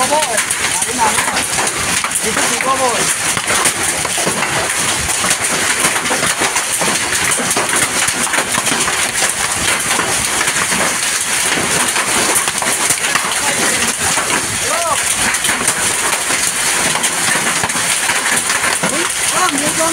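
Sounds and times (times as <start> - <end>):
hailstones pattering on grass: 0.0 - 19.9
rain hissing: 0.0 - 19.9.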